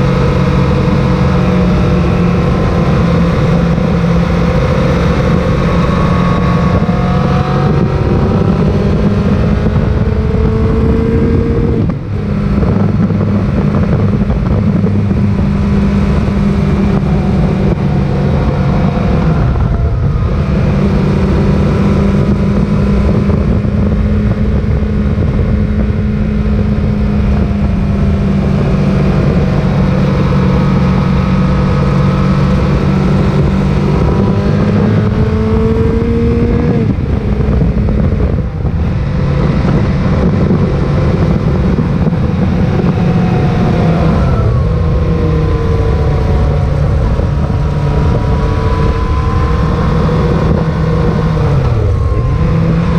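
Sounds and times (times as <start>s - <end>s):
motorcycle engine running: 0.0s - 52.9s
wind noise: 0.0s - 52.9s.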